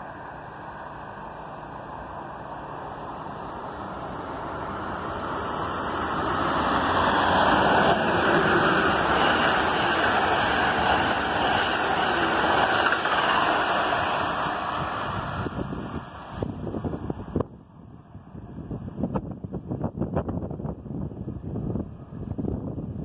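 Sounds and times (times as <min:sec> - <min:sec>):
rushing air: 0:00.0 - 0:23.0
train wheels on rail: 0:00.0 - 0:23.0.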